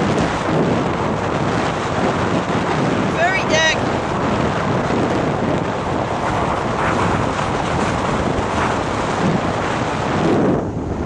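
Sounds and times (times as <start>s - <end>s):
waves washing against pilings: 0.0s - 11.0s
wind buffeting microphone: 0.0s - 11.0s.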